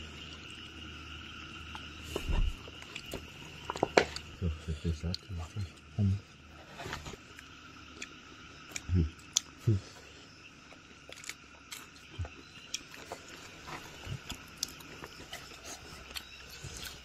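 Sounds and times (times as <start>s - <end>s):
people chewing: 1.6s - 17.0s.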